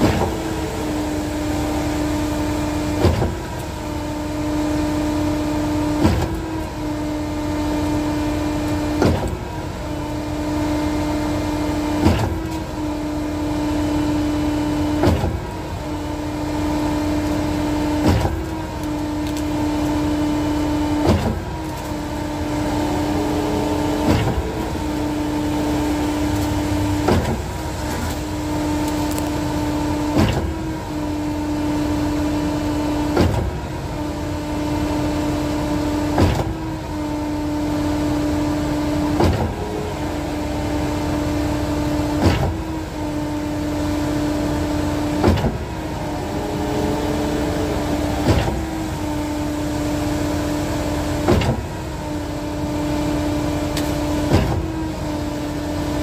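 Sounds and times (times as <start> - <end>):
hydraulic pump hum: 0.0 - 56.0.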